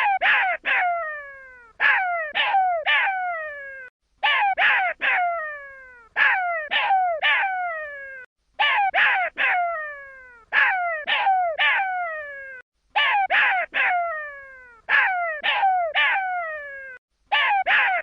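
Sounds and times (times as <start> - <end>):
baby jackal yelping: 0.0 - 18.0.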